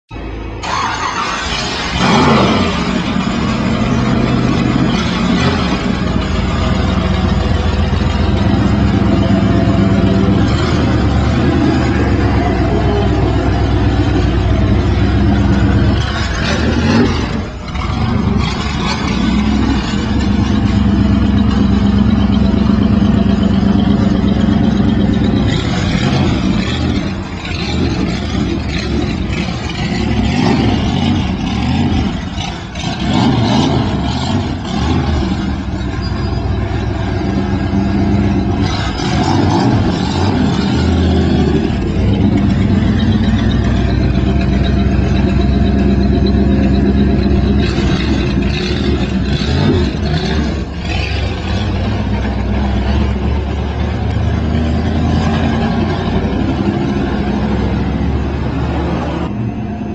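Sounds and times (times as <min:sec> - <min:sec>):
race car engine revving: 0:00.6 - 0:59.9.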